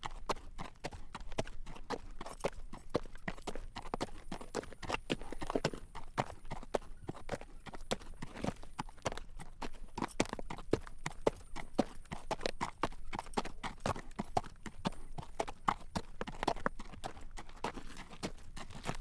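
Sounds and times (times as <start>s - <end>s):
horse hooves clip-clopping on road: 0.0s - 19.0s.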